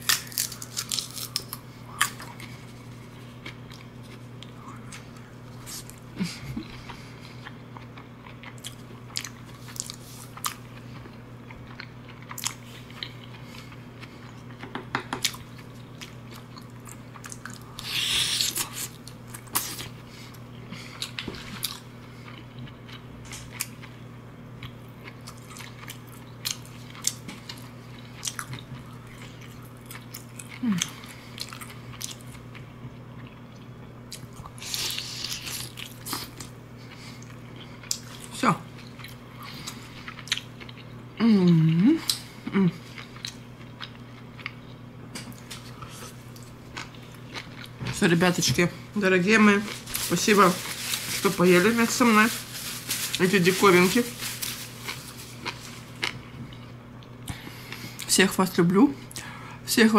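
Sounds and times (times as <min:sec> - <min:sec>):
person chewing: 0:00.0 - 0:24.0, 0:24.6 - 0:47.8, 0:54.1 - 0:58.1
faint steady hum: 0:00.0 - 0:59.9.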